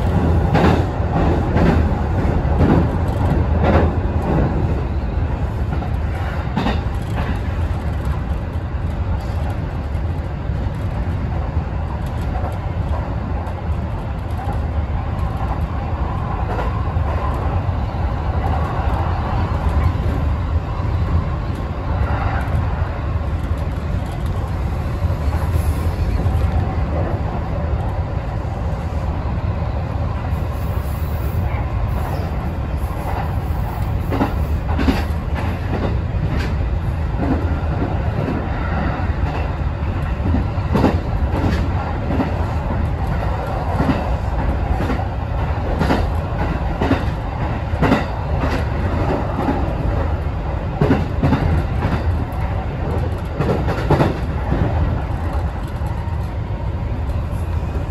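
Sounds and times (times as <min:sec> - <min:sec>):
train wheels rumbling: 0:00.0 - 0:57.9.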